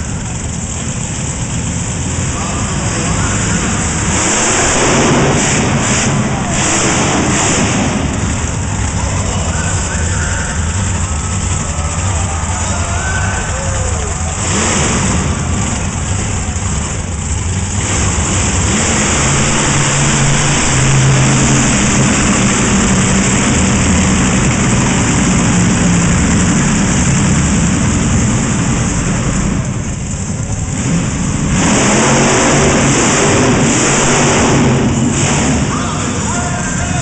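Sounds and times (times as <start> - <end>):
truck engine revving hard: 0.0 - 37.0.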